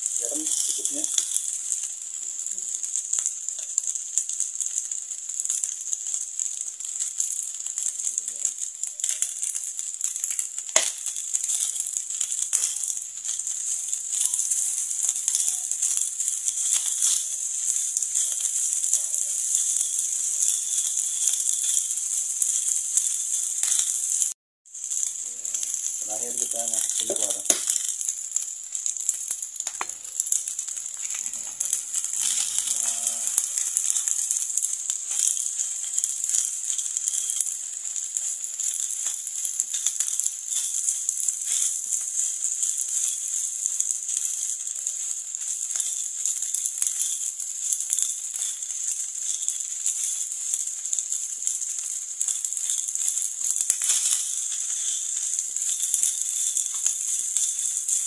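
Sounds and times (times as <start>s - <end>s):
egg cracking: 0.0s - 58.0s
rice sizzling in frying pan: 0.0s - 58.0s.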